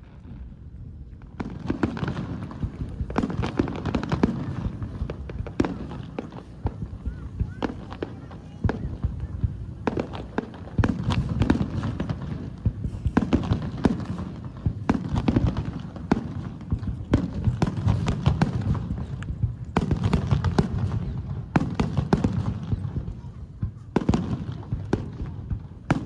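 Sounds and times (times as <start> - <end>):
continuous low rumble: 0.0 - 26.0
fireworks bursting: 0.0 - 26.0.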